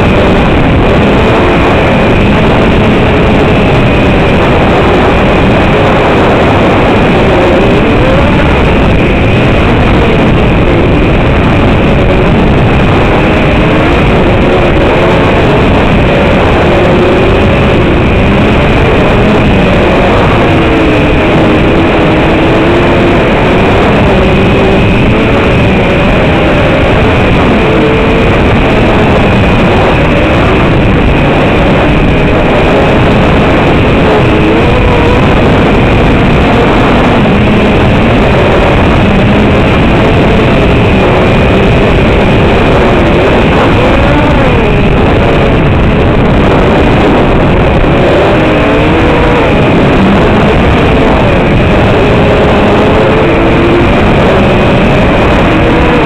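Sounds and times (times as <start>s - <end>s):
loud constant hiss: 0.0s - 56.0s.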